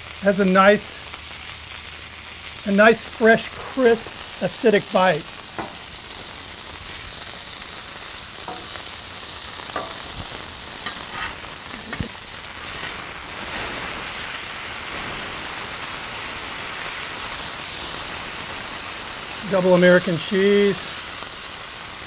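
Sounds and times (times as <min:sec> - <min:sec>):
burger patties sizzling on griddle: 0:00.0 - 0:22.0.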